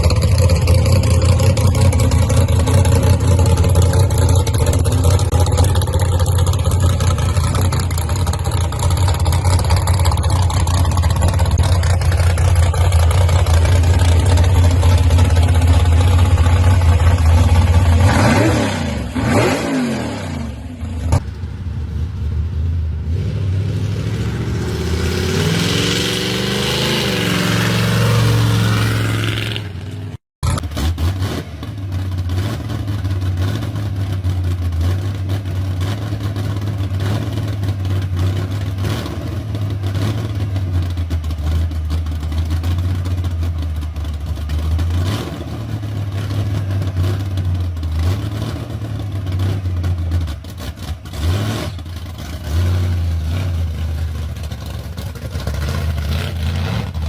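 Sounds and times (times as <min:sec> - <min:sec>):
hot-rod car engines revving: 0:00.0 - 0:57.0.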